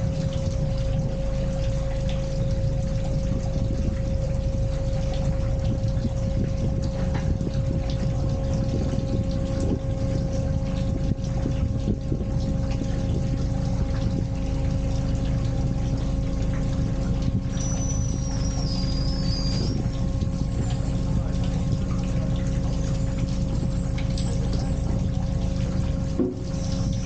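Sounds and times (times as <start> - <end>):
boat engine humming: 0.0 - 27.0
water churning: 0.0 - 27.0.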